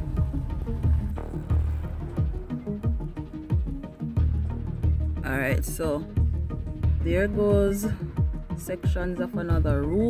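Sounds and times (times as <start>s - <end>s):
music with deep bass beat: 0.0s - 10.0s.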